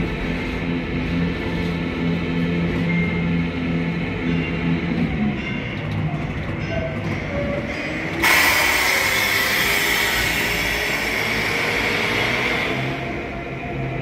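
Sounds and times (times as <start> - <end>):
rumbling clattering mechanism: 0.0 - 12.5.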